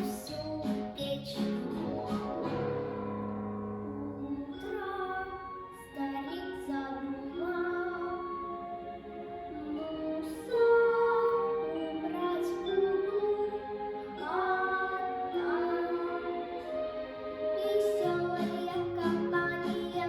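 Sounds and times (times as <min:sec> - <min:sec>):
woman singing: 0:00.0 - 0:02.5, 0:04.0 - 0:08.6, 0:09.7 - 0:16.7, 0:17.5 - 0:20.0
low instrumental accompaniment: 0:00.0 - 0:20.0.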